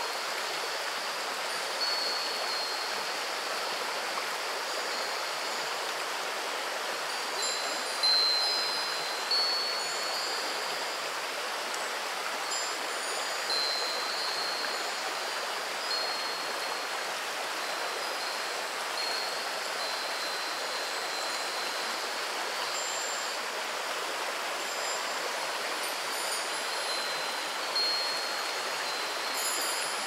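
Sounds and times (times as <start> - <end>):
river babbling over pebbles: 0.0 - 30.0
wind chime ringing: 1.4 - 3.8, 4.6 - 5.9, 7.1 - 11.2, 11.8 - 17.0, 17.6 - 23.5, 24.6 - 30.0.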